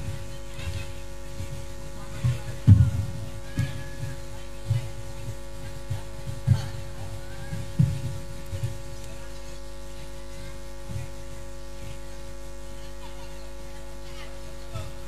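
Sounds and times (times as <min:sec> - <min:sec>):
faint low thumps: 0:00.0 - 0:12.7
electrical hum: 0:00.0 - 0:15.0.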